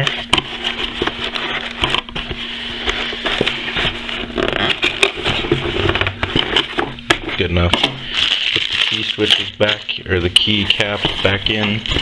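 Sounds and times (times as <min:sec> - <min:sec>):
cardboard packaging rustling: 0:00.0 - 0:12.0
steady low hum: 0:00.0 - 0:12.0.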